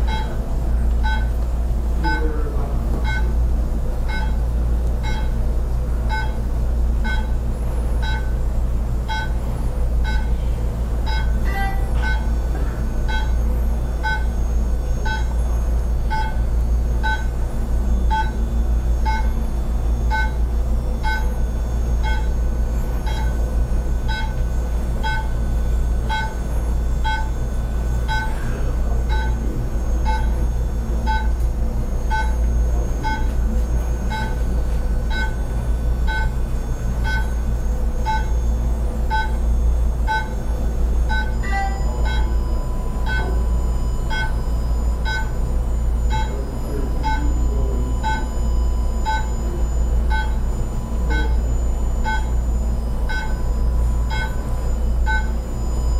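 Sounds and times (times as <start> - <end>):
laser device beeping: 0.0 - 1.4, 2.0 - 55.9
low hum: 0.0 - 55.9.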